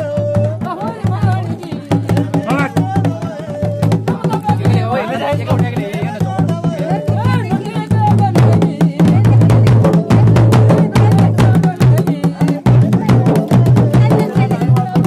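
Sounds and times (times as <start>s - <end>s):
fast dense drumming: 0.0s - 15.0s.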